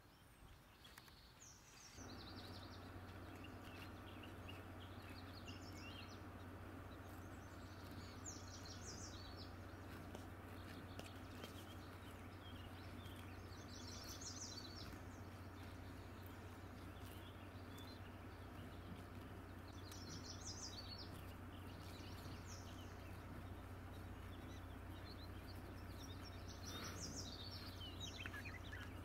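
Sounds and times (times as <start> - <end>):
songbirds trilling: 0.0 - 29.0
low hum and hiss: 2.0 - 29.0.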